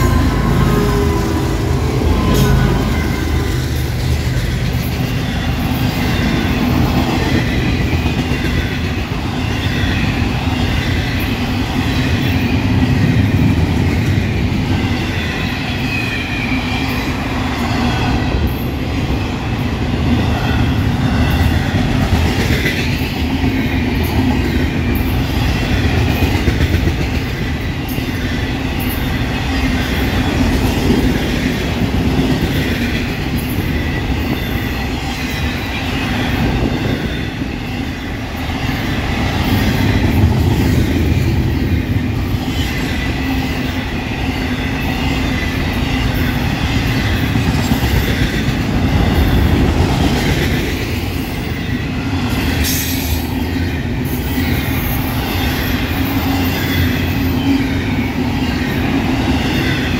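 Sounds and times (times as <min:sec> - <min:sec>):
train wheels rumbling on rail: 0:00.0 - 0:59.9
clickety-clack over rail joints: 0:02.2 - 0:17.1, 0:19.4 - 0:59.9.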